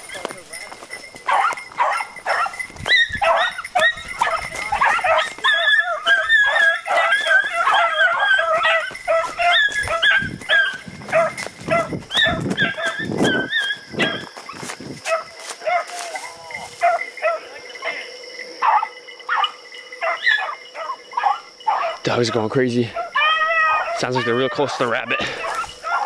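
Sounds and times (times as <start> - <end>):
hounds baying: 0.0 - 26.0.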